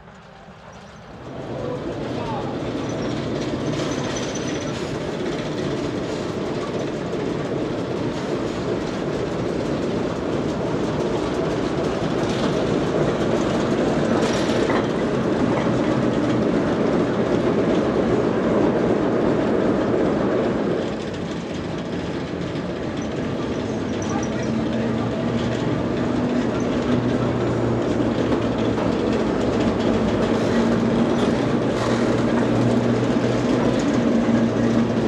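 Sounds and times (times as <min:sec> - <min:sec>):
diesel locomotive running: 0:00.0 - 0:35.0.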